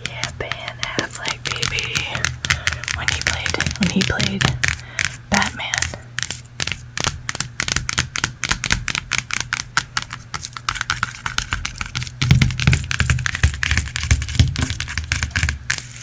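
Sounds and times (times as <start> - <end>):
rapid tapping on object: 0.0 - 16.0.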